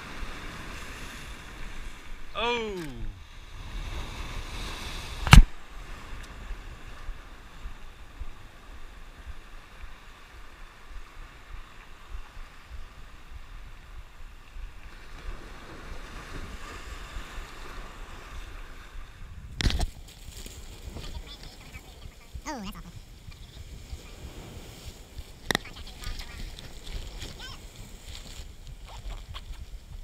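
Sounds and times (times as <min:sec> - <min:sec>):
wind buffeting microphone: 0:03.2 - 0:30.0.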